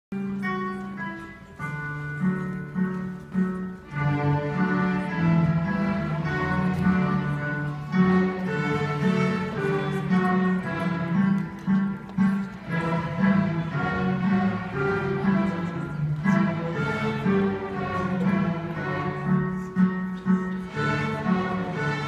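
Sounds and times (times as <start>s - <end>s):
string orchestra playing: 0.2s - 22.0s.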